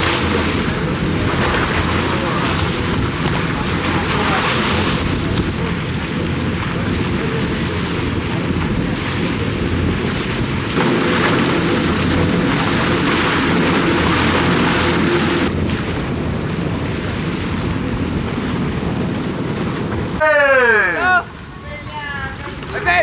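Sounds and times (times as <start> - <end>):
wind on microphone: 0.0 - 20.2
motorboat engine hum: 0.0 - 23.0
water rushing: 0.0 - 23.0.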